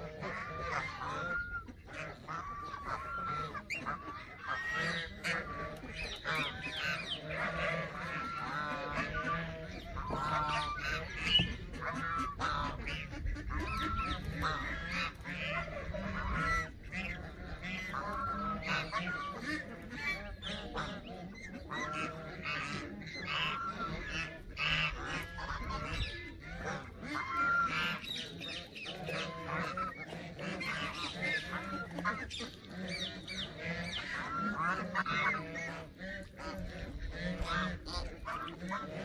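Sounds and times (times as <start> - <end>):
geese honking: 0.0 - 39.0.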